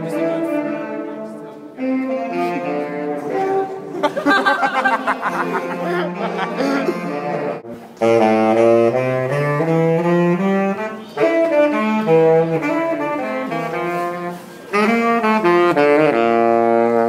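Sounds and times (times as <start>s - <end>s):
saxophone melody: 0.0s - 17.0s.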